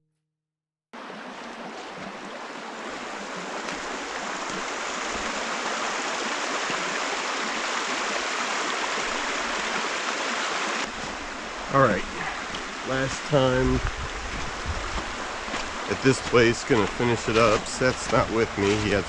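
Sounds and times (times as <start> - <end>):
creek water rushing over stones: 1.0 - 19.0.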